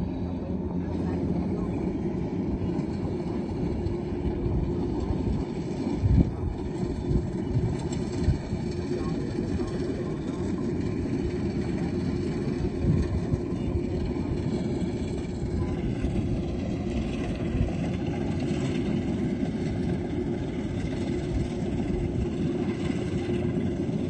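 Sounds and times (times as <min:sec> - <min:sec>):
combine harvester rumbling: 0:00.0 - 0:24.0.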